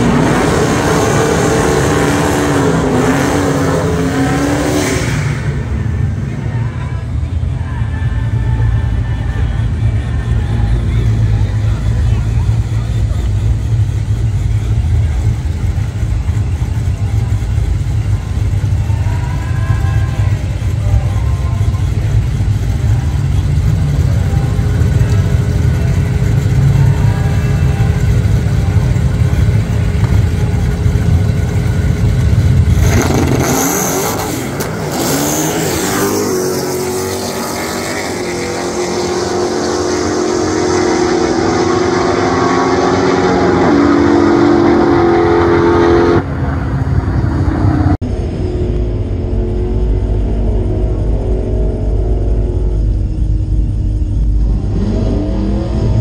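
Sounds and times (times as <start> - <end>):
engines launching at full throttle: 0.0 - 6.7, 9.8 - 56.0
car engines idling loudly: 0.0 - 45.1, 46.2 - 56.0.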